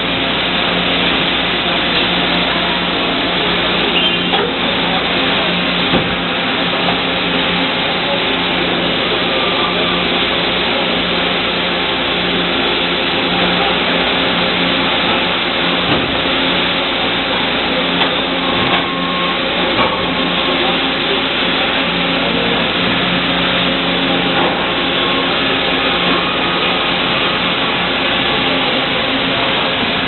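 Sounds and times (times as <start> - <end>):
machine mechanical hum: 0.0 - 30.0.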